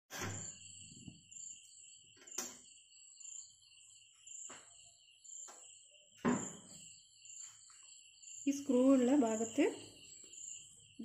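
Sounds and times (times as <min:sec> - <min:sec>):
crickets chirping: 0:00.1 - 0:11.0.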